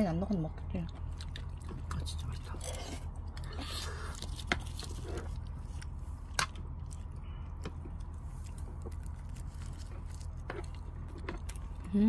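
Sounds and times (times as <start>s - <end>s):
person chewing: 0.9s - 12.0s.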